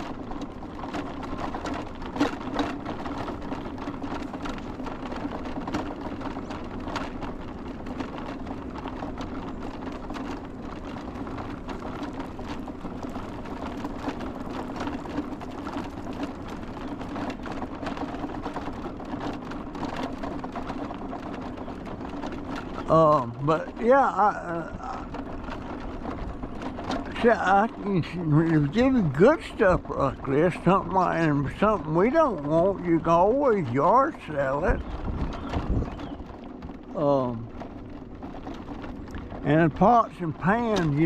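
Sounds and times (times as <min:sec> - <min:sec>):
light rattle: 0:00.0 - 0:41.0.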